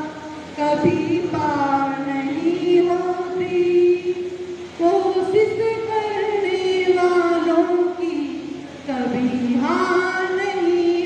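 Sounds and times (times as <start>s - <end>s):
woman singing into a microphone: 0.0s - 11.0s.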